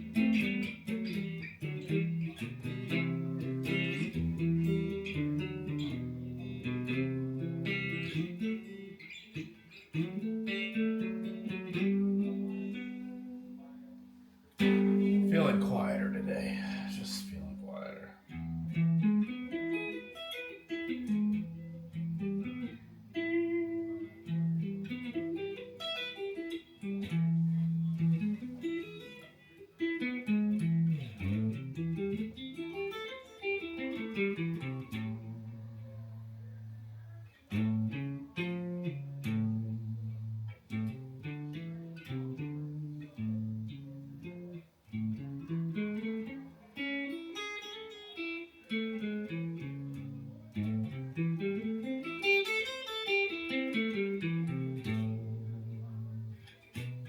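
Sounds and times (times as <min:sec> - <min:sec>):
guitar picked notes: 0:00.0 - 0:57.0.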